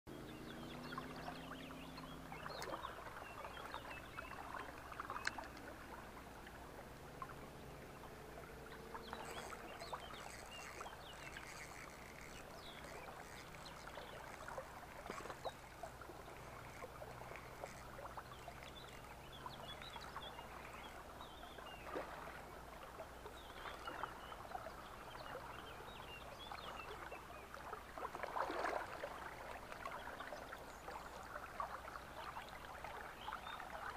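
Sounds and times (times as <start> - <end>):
water splashing and lapping: 0.2 - 33.9.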